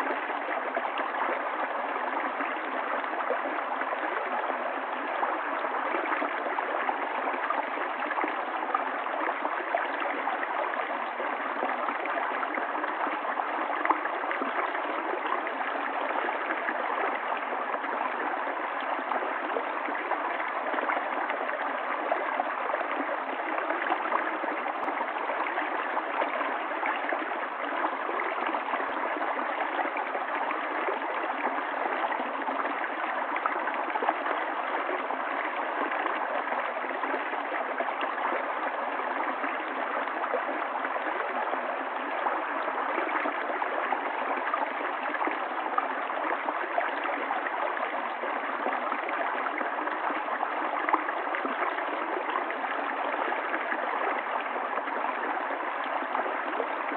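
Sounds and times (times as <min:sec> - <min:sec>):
stream gurgling over rocks: 0:00.0 - 0:56.9.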